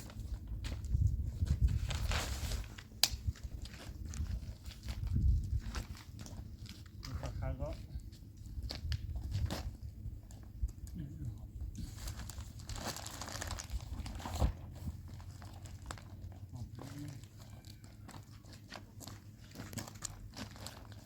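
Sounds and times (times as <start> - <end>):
plastic crinkling and rustling: 0.0 - 21.0.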